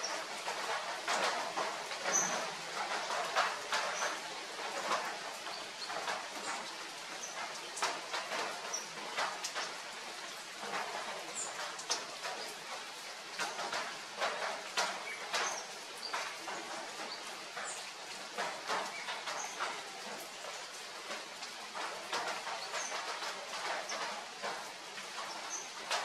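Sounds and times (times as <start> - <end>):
rain falling on foliage: 0.0 - 26.0.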